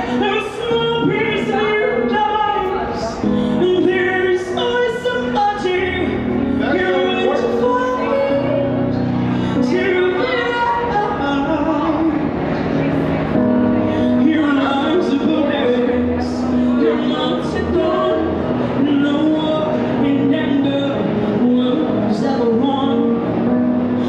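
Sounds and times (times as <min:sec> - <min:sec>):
girl singing through speaker: 0:00.0 - 0:24.0.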